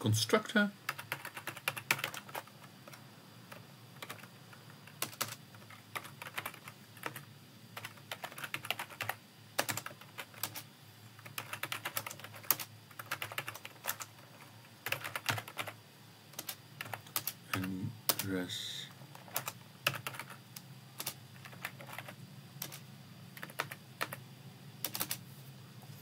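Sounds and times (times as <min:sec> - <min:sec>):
typing on computer keyboard: 0:00.9 - 0:10.6, 0:11.2 - 0:18.3, 0:19.1 - 0:20.4, 0:21.0 - 0:22.8, 0:23.4 - 0:24.2, 0:24.8 - 0:25.2.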